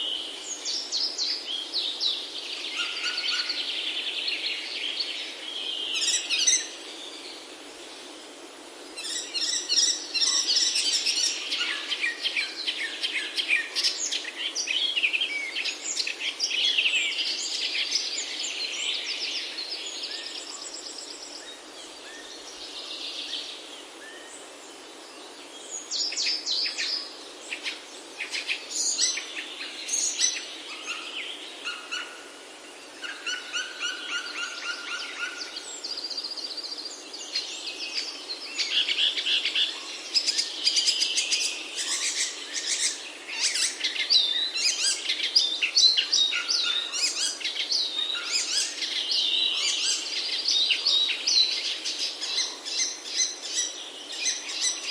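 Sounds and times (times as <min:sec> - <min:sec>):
songbirds singing and chirping: 0:00.0 - 0:54.9
steady background hiss: 0:00.0 - 0:54.9.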